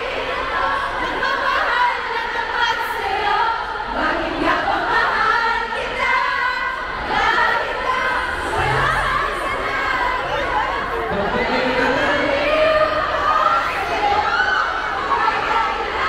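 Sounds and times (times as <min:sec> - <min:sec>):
large crowd of high voices: 0:00.0 - 0:16.0.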